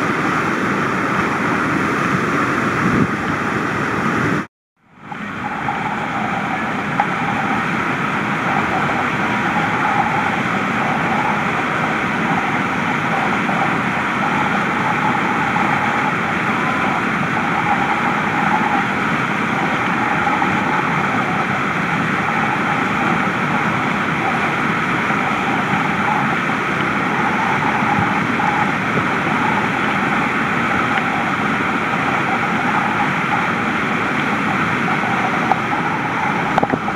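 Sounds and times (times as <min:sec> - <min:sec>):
whitewater rapids rushing: 0:00.0 - 0:36.9.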